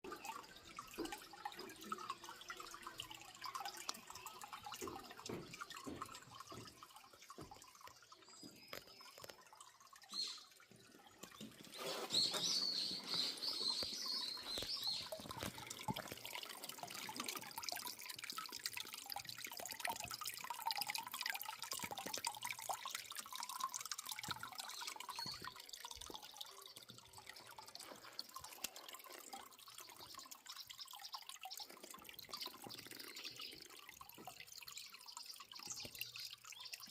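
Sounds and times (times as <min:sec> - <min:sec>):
water dripping and trickling: 0:00.0 - 0:36.9.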